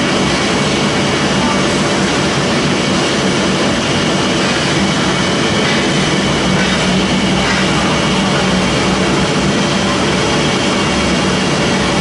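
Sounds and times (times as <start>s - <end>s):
machinery humming steadily: 0.0s - 12.0s.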